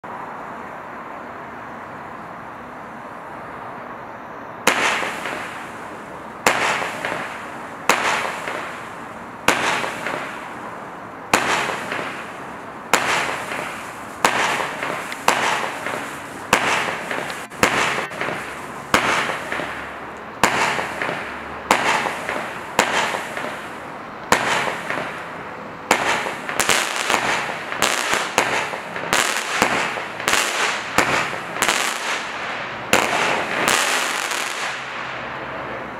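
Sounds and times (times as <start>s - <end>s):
firework shots firing: 4.6s - 10.6s, 11.3s - 35.2s.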